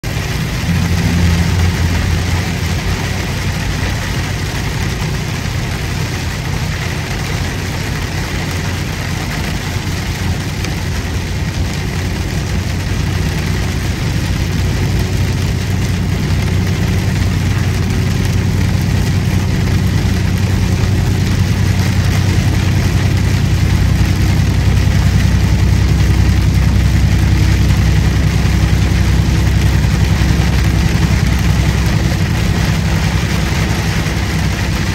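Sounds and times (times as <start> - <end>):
road noise: 0.0 - 34.9
truck engine droning: 0.0 - 34.9.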